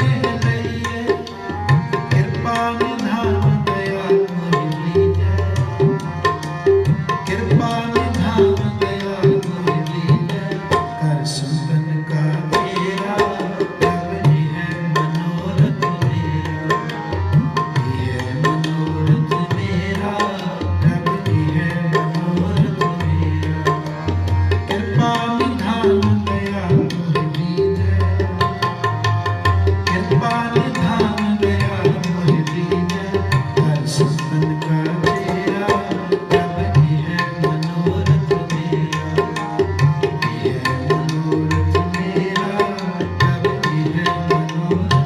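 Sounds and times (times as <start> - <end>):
harmonium held notes: 0.0 - 45.0
tabla fast rhythm: 0.0 - 45.0.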